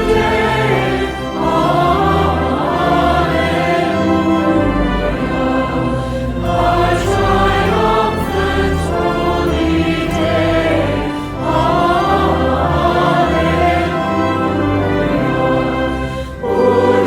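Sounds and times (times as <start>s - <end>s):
group singing a hymn: 0.0s - 17.0s.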